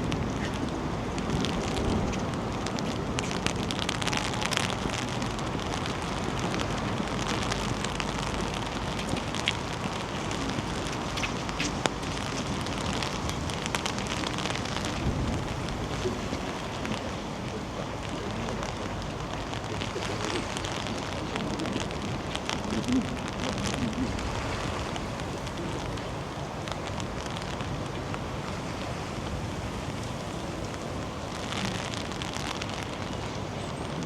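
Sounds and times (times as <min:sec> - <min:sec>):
rain falling: 0:00.0 - 0:34.0
sharp drip ticks: 0:00.0 - 0:34.0.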